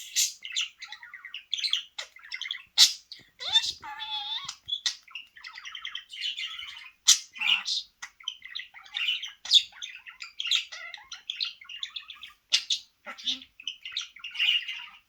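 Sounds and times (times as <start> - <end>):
budgerigar chattering and warbling: 0.0 - 15.0.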